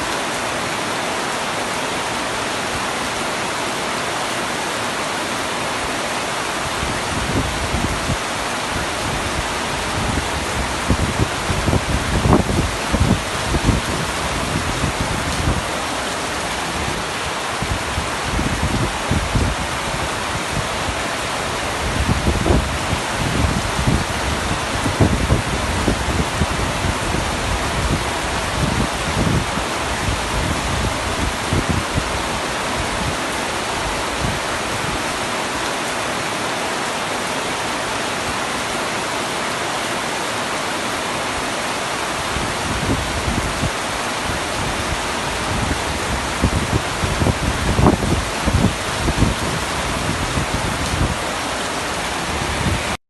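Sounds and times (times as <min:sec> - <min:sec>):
heavy rain on tent roof: 0:00.0 - 0:53.0.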